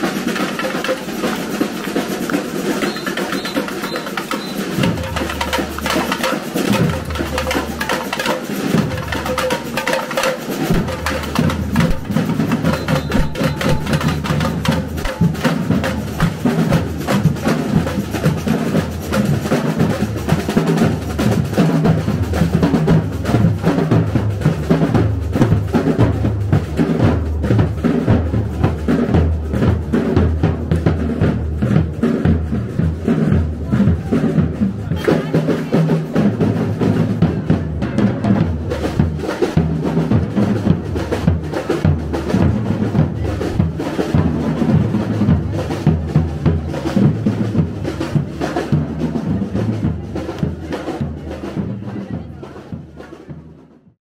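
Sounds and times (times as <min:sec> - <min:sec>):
drum band playing: 0:00.0 - 0:54.0
low drums: 0:00.0 - 0:54.0.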